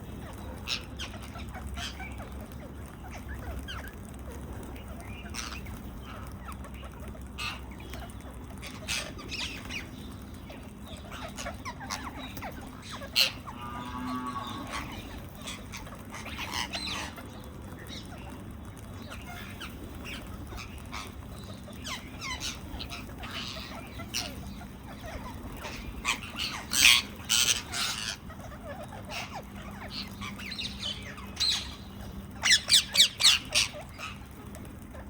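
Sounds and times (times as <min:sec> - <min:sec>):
parakeets squawking and chirping: 0:00.1 - 0:35.0.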